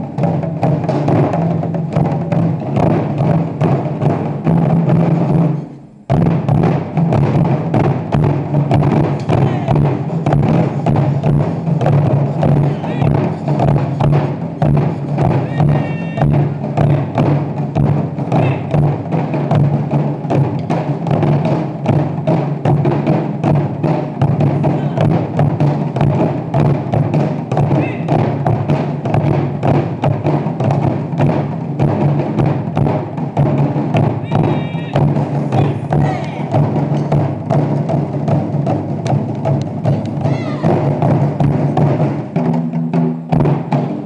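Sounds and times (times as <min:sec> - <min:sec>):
deep drum strokes: 0:00.0 - 0:44.0
sharp wooden clacks: 0:04.0 - 0:42.6.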